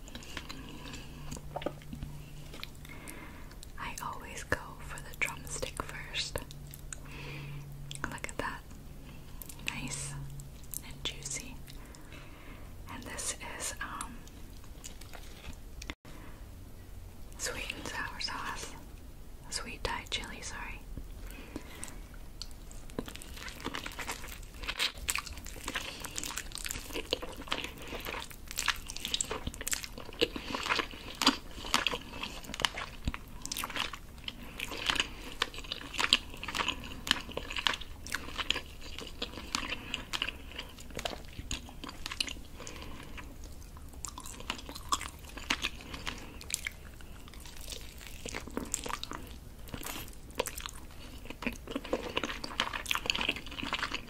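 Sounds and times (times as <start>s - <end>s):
chewing with crackly clicks: 0.0s - 12.3s, 12.9s - 16.0s, 20.0s - 54.0s.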